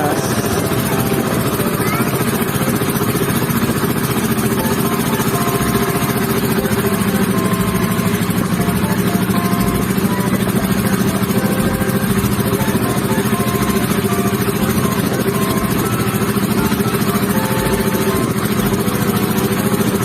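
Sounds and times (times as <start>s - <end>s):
boat engine throbbing: 0.0s - 20.0s.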